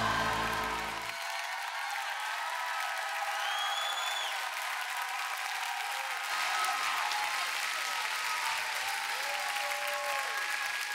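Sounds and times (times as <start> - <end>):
congregation applauding: 0.0 - 10.9.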